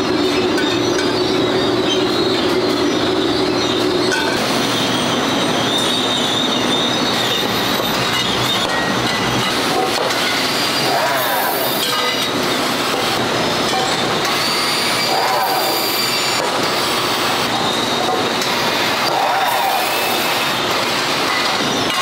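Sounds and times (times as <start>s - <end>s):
factory motors and conveyors: 0.0s - 22.0s.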